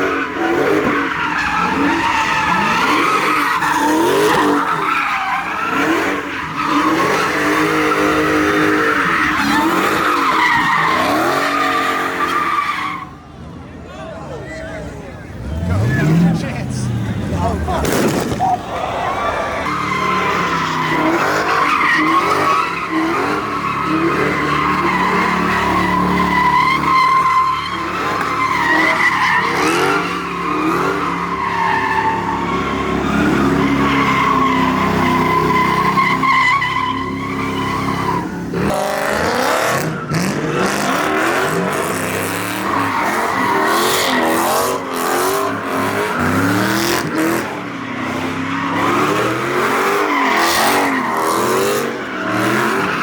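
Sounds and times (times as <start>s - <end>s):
car engine revving: 0.0s - 12.7s, 15.2s - 53.0s
car tyres squealing: 0.0s - 53.0s.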